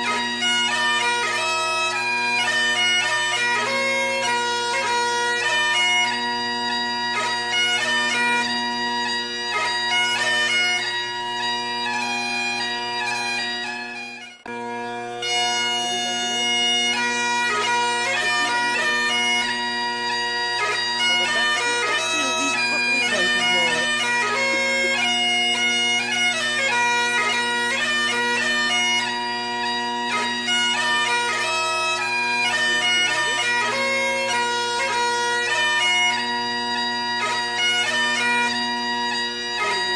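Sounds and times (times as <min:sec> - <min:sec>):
bagpipes playing a tune: 0:00.0 - 0:39.9.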